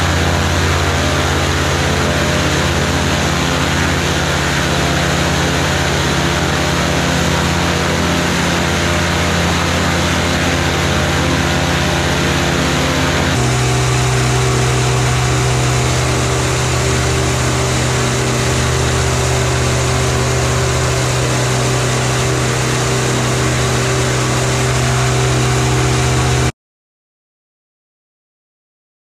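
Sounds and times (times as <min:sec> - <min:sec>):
aircraft engine and propeller hum: 0:00.0 - 0:26.5.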